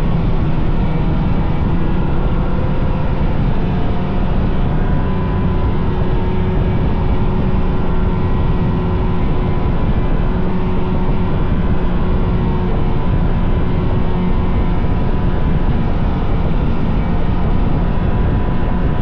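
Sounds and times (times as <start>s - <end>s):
snowmobile engine running: 0.0s - 19.0s
track and wind noise: 0.0s - 19.0s.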